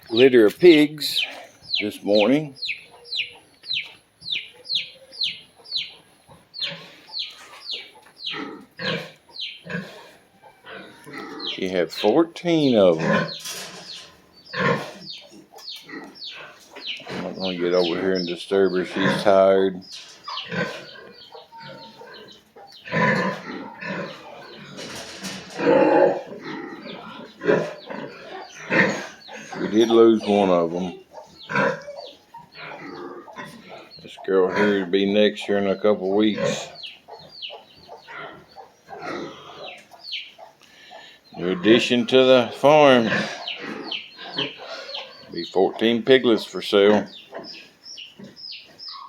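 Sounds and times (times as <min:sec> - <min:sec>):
young animals peeping: 0:00.0 - 0:49.0
pigs grunting and squealing: 0:06.5 - 0:40.6, 0:41.3 - 0:49.0.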